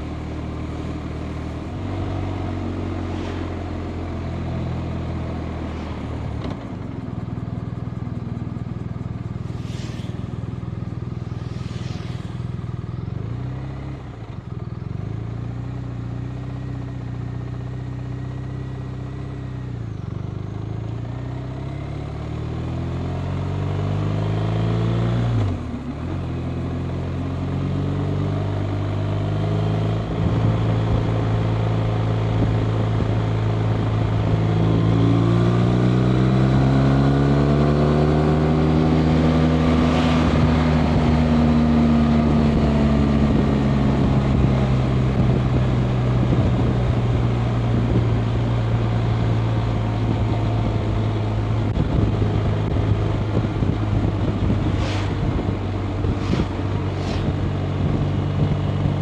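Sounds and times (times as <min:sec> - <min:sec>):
motorcycle engine on the road: 0:00.0 - 0:59.0.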